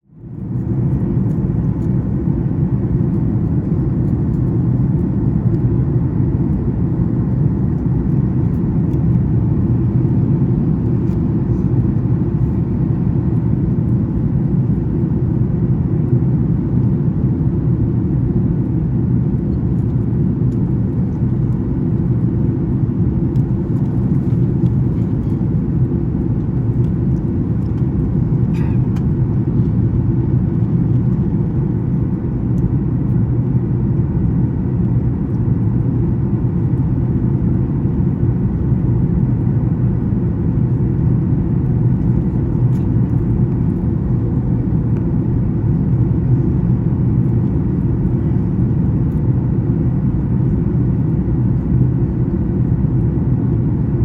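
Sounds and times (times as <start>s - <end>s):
airliner cabin rumble: 0.1s - 54.0s.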